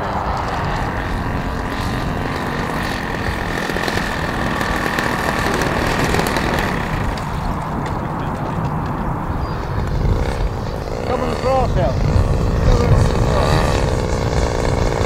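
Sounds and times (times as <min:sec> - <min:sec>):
model plane engine and propeller: 0:00.0 - 0:15.0.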